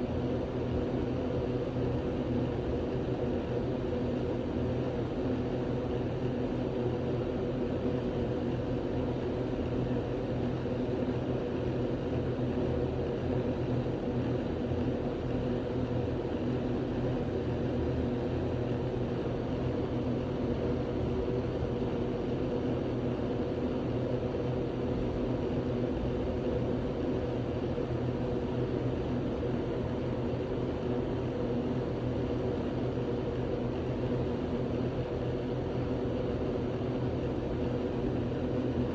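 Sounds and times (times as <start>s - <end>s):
mechanical drone with low hum: 0.0s - 38.9s.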